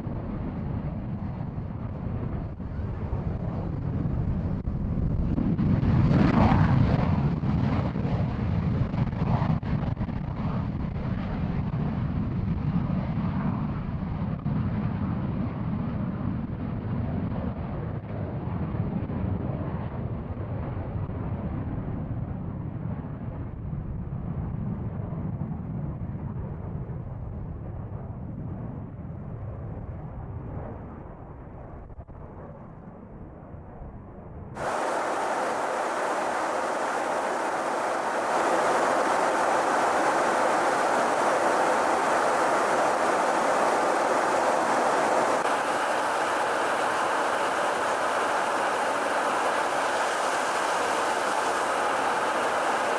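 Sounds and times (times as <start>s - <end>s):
jet engine rumble: 0.0s - 26.4s, 29.6s - 52.9s.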